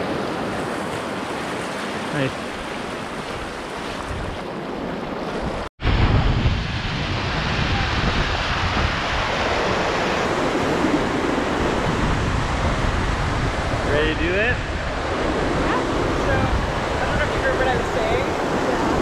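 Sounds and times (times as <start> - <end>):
wind on microphone: 2.6 - 19.0.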